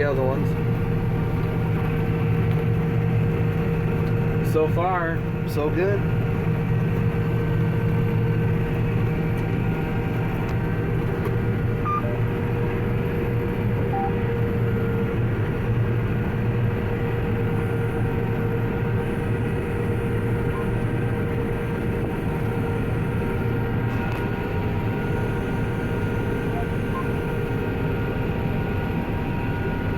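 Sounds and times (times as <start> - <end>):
combine harvester engine drone: 0.0 - 29.9.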